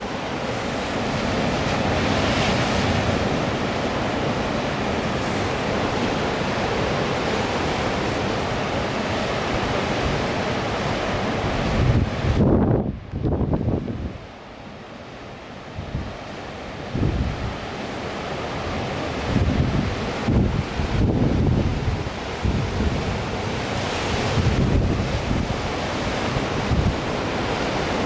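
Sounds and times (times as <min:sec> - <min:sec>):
sea surf: 0:00.0 - 0:28.0
wind buffeting microphone: 0:01.2 - 0:14.3, 0:15.7 - 0:16.2, 0:16.8 - 0:17.8, 0:18.6 - 0:28.0.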